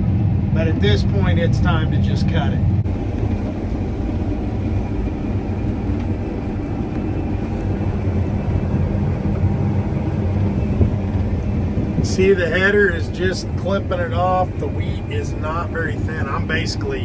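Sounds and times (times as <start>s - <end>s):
combine harvester engine hum: 0.0s - 17.0s.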